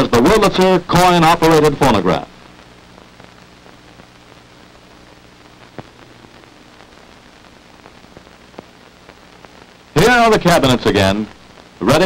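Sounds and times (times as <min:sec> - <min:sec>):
faint steady hum: 0:00.0 - 0:12.0
film soundtrack hiss and crackle: 0:00.0 - 0:12.0.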